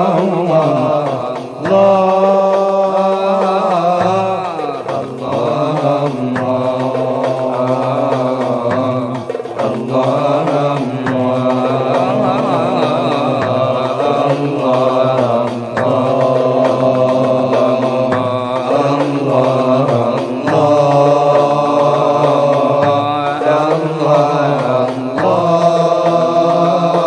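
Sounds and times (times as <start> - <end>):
man chanting devotional song: 0.0 - 27.0.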